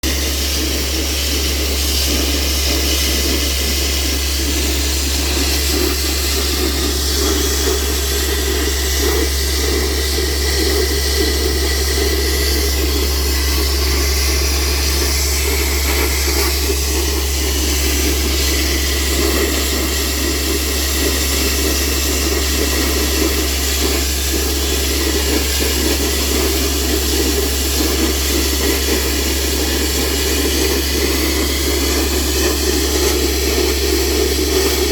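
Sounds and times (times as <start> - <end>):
air compressor engine hum: 0.0 - 34.9
compressed air and water rushing: 0.0 - 34.9.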